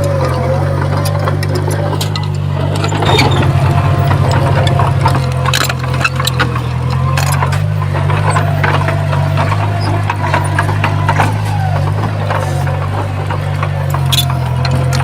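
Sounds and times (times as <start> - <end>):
diesel engine running: 0.0 - 15.0
metallic clanks and knocks: 0.0 - 15.0.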